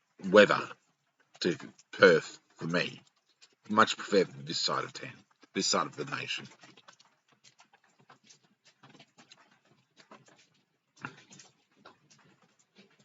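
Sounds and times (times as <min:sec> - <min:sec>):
light rain drips: 0:00.0 - 0:13.0.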